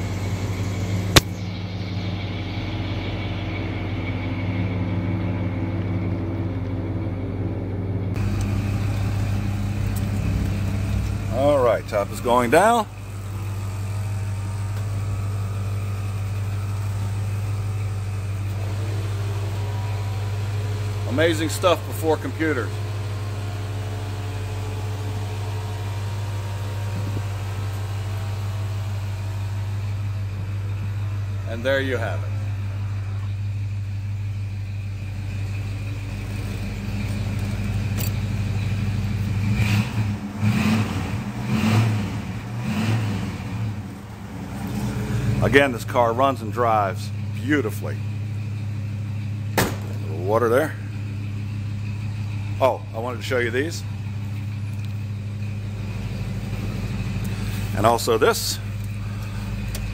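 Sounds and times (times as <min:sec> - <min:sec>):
car engine idling: 0:00.0 - 0:59.9
engine revving blips: 0:00.0 - 0:59.9.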